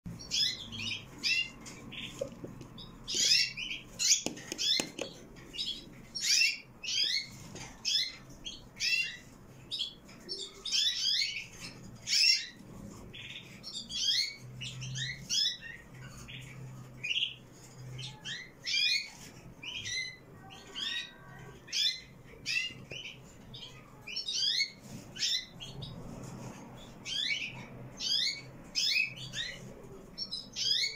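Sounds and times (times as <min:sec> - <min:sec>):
canaries chirping: 0:00.1 - 0:30.9.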